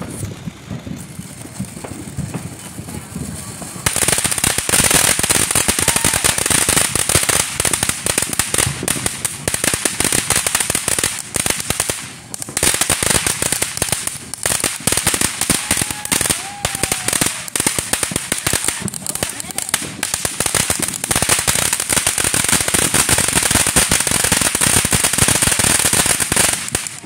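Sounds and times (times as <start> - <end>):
firework fountain hissing: 0.0 - 27.0
rapid crackling pops: 0.0 - 27.0.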